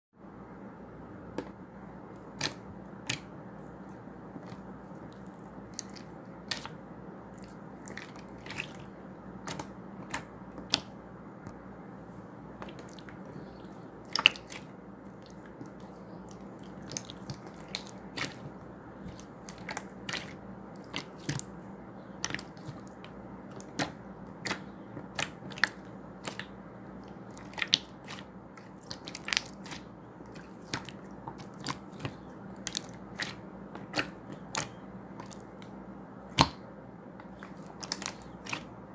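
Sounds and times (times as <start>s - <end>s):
steady low hum: 0.2s - 38.9s.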